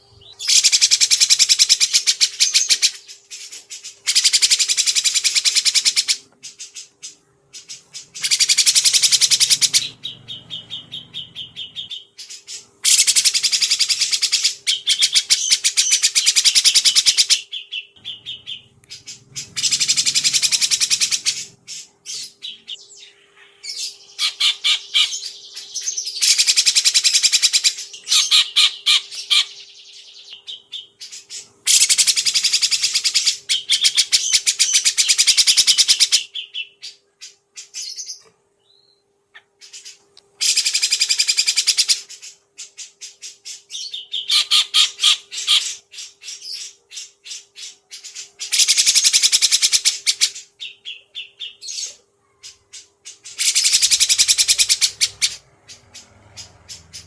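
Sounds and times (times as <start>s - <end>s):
faint steady hum: 0.0s - 57.0s
songbird rapid rattling song: 0.1s - 38.3s, 39.4s - 57.0s.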